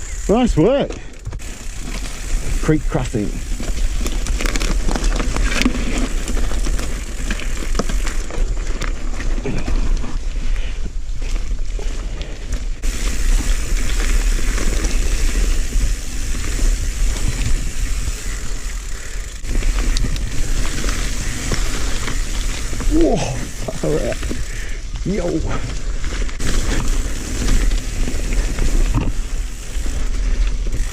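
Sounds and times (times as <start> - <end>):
bike rattles and knocks: 0.0 - 30.9
bike tyre noise: 0.0 - 30.9.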